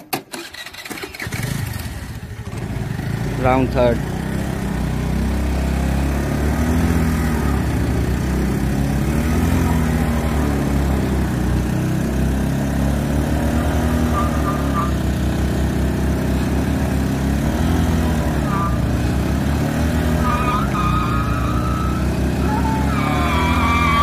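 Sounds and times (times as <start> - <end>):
scooter engines revving hard: 0.4 - 24.0.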